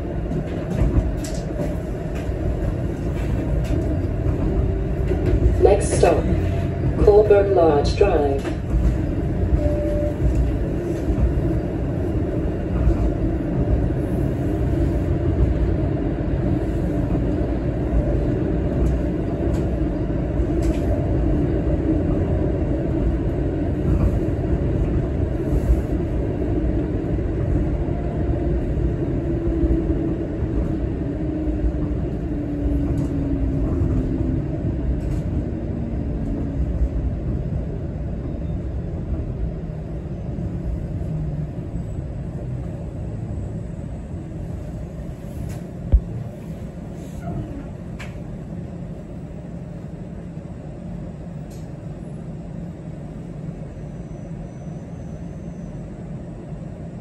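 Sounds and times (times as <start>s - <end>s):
streetcar rumble: 0.0s - 57.0s.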